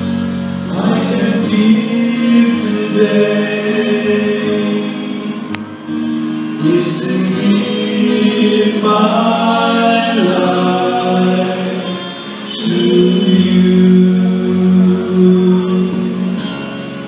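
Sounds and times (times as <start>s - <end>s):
voices singing hymn in harmony: 0.0s - 17.0s.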